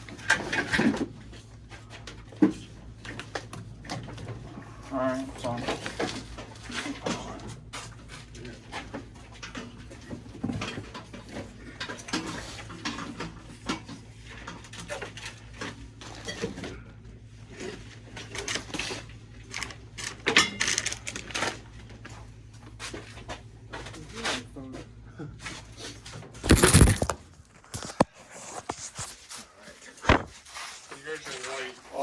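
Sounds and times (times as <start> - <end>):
objects clattering and scraping: 0.0 - 4.5, 5.3 - 16.8, 17.6 - 21.6, 25.5 - 31.8.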